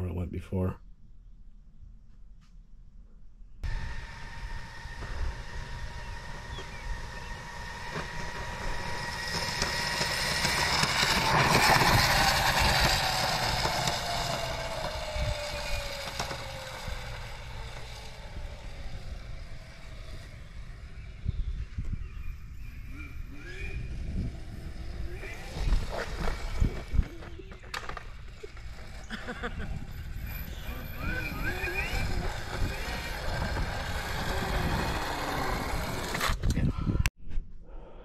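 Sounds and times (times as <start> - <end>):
electric scooter motor whine: 3.6 - 36.5
tyre and wind noise: 3.6 - 37.5.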